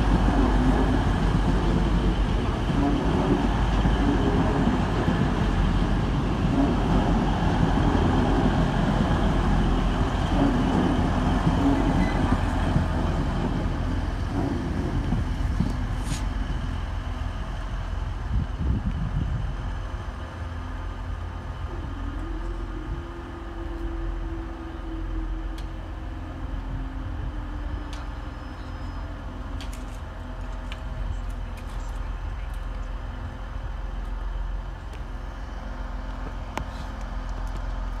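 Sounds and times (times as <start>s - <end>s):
hum: 0.0s - 38.0s
rumble of idling vehicles: 0.0s - 38.0s.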